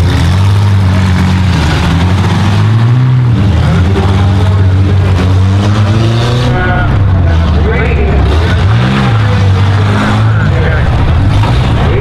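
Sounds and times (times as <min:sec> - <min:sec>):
pickup truck engines racing: 0:00.0 - 0:12.0.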